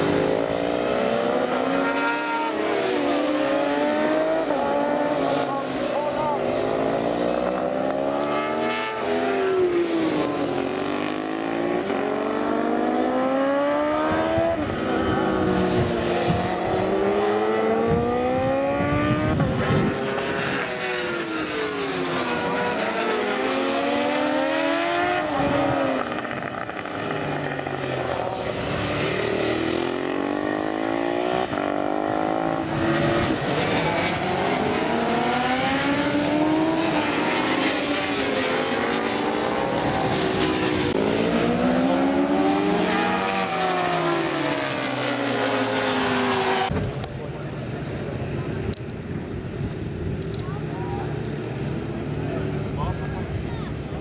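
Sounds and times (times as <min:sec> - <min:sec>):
motorcycle engines racing past: 0:00.0 - 0:54.0.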